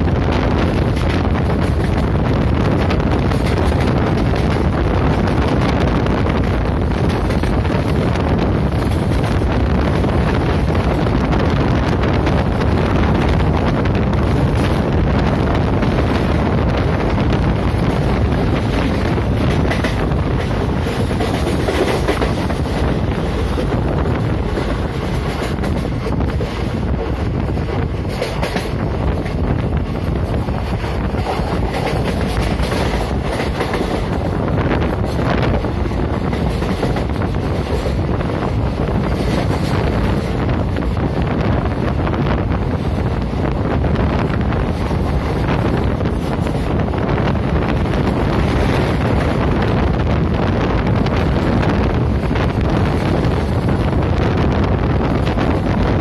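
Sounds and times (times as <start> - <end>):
train running on rails: 0.0 - 56.0
wind on microphone: 0.0 - 56.0.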